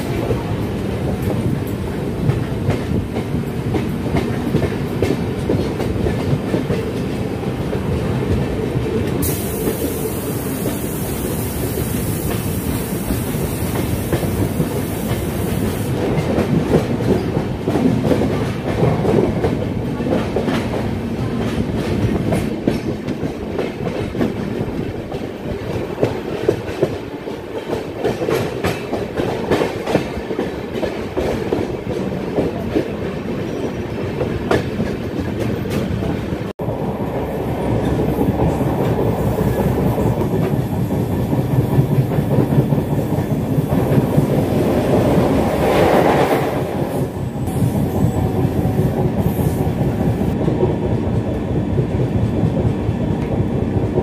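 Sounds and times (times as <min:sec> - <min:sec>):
train coach rumbling: 0:00.0 - 0:54.0.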